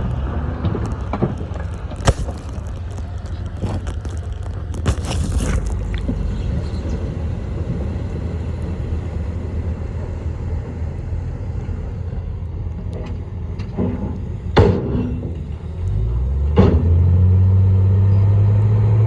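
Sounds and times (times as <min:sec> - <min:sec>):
diesel machinery rumbling: 0:00.0 - 0:19.0.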